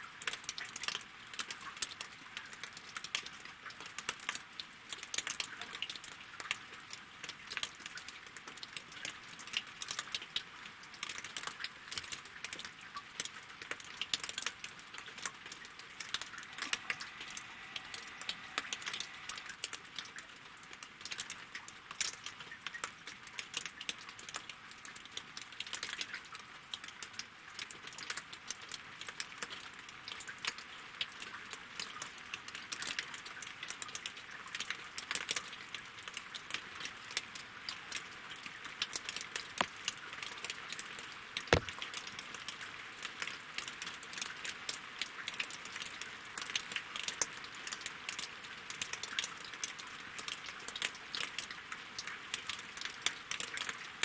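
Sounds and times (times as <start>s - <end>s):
rain pattering on water and logs: 0.0s - 54.0s.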